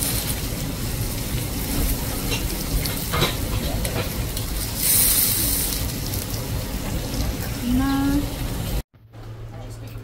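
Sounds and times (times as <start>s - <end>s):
beef sizzling: 0.0s - 8.8s.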